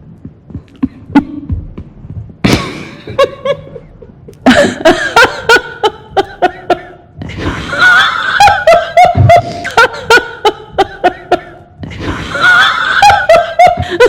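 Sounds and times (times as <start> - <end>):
woman laughing: 2.5 - 14.0.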